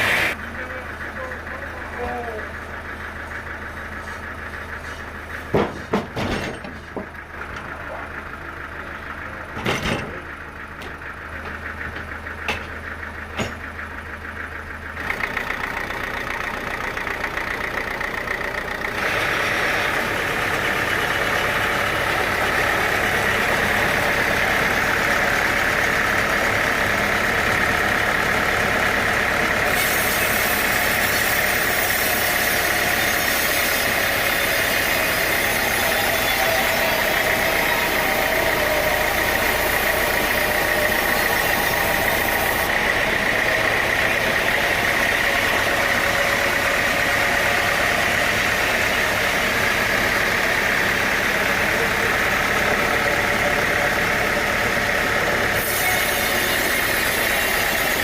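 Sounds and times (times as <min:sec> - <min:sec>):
sawmill engine hum: 0:00.0 - 0:58.0.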